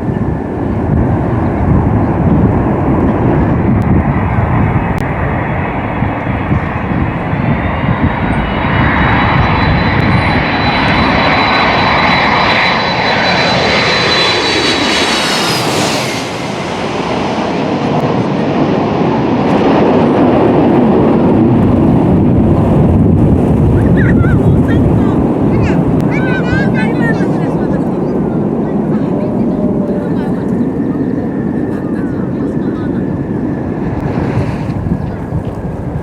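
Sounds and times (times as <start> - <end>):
jet engine whine: 0.0 - 36.0
rushing engine roar: 0.0 - 36.0.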